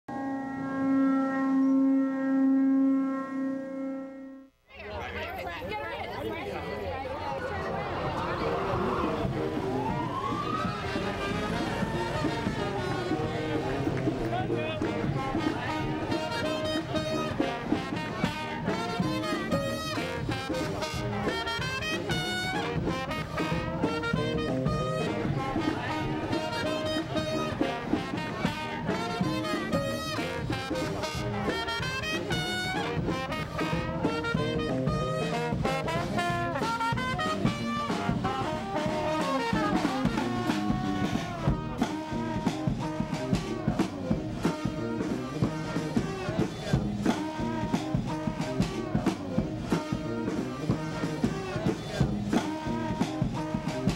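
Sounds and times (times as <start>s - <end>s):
swing jazz with brass: 7.8s - 53.9s.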